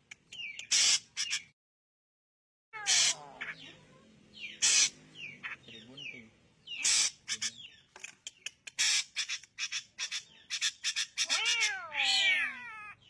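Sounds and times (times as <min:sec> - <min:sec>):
bird sharp harsh notes: 0:00.4 - 0:01.5, 0:02.8 - 0:13.0.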